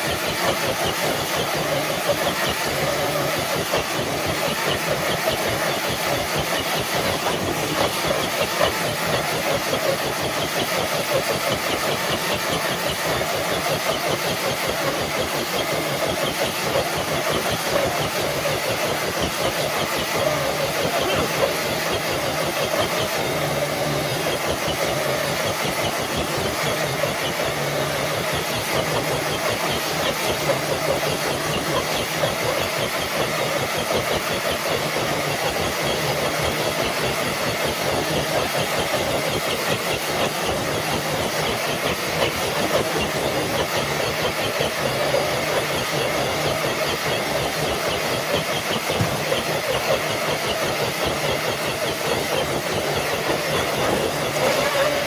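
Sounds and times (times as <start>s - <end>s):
toy truck electric motor running: 0.0s - 55.0s.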